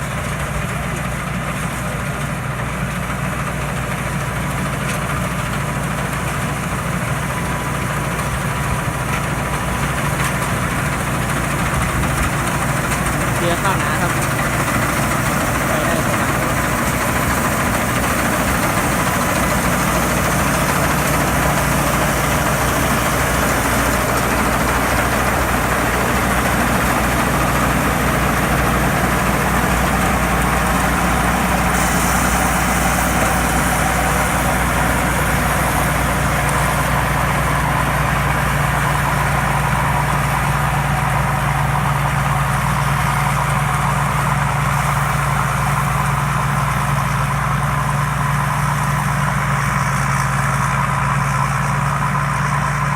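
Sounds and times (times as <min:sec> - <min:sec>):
combine harvester engine drone: 0:00.0 - 0:52.9.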